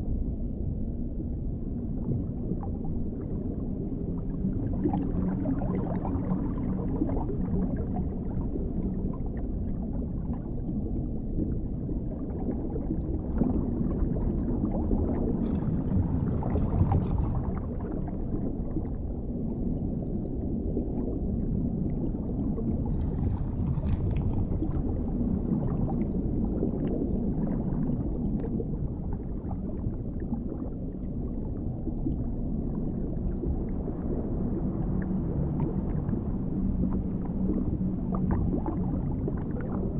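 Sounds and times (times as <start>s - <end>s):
muffled underwater rumble: 0.0s - 39.9s
underwater gurgles and bubbles: 0.0s - 39.9s.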